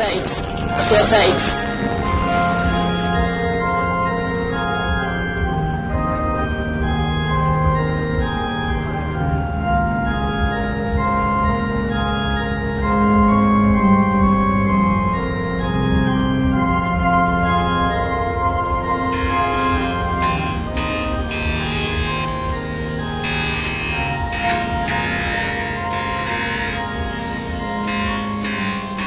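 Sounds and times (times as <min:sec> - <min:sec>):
slow organ-like chords: 0:00.0 - 0:29.0.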